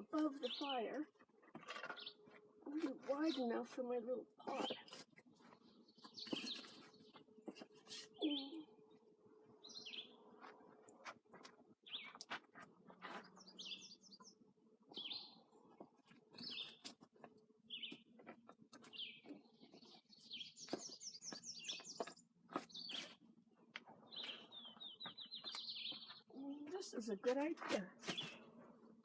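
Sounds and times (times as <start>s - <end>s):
small songbirds chirping and trilling: 0.0s - 29.0s.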